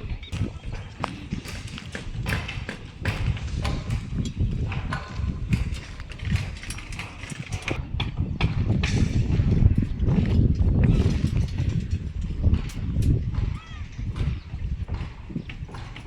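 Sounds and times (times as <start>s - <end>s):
metallic clicks and knocks: 0.0s - 16.0s.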